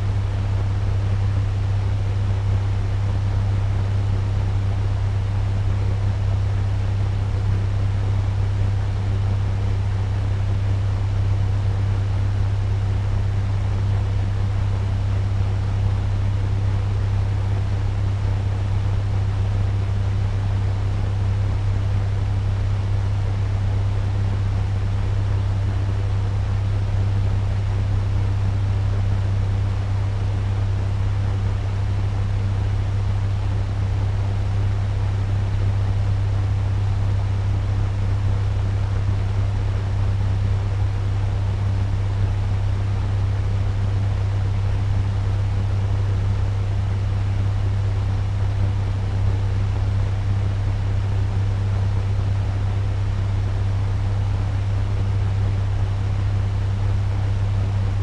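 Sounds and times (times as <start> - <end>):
fan running: 0.0 - 58.0.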